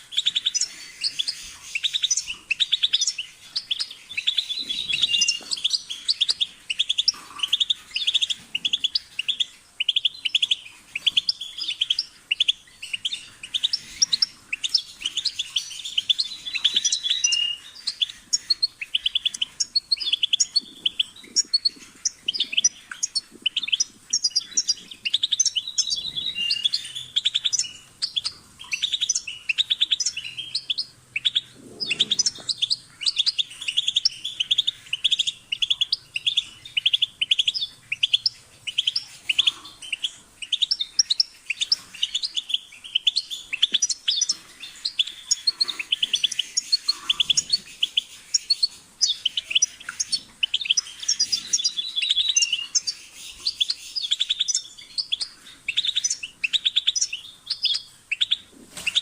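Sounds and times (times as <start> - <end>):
finch twittering and trilling: 0.0 - 59.0.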